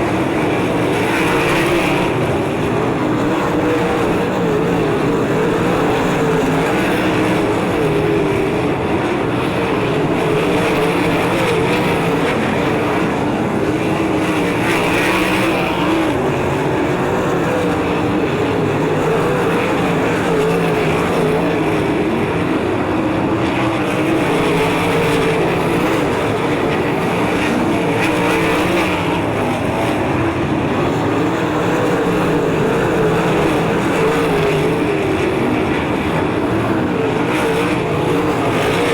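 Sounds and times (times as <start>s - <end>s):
race car engines running hard: 0.0s - 38.9s.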